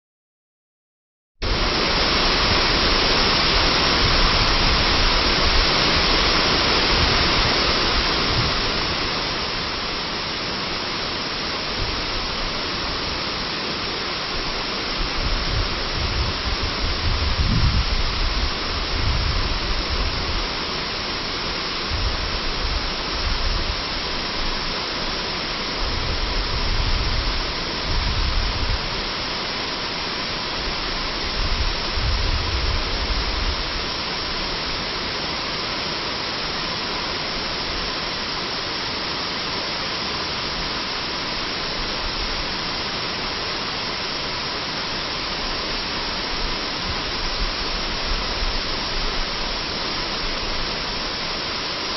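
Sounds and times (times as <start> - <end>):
waterfall roaring: 1.4 - 51.9.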